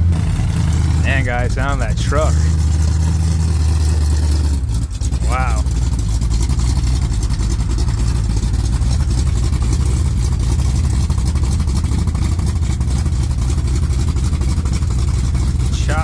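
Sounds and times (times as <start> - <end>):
truck engine choppy idle: 0.0 - 16.0.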